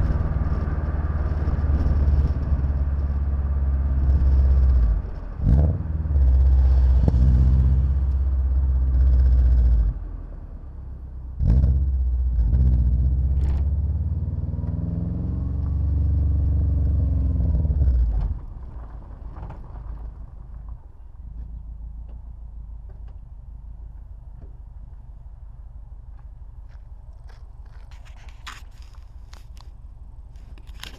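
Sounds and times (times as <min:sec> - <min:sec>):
car wind and road noise: 0:00.0 - 0:30.9.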